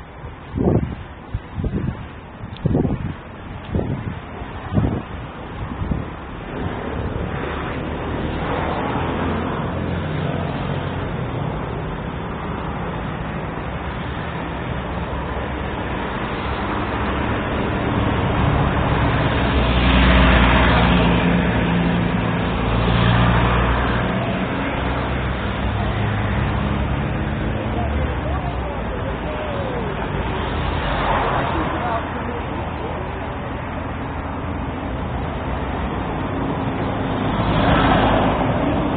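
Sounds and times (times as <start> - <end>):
street traffic rumble: 0.0 - 38.9
heavy vehicle passing: 3.8 - 38.9.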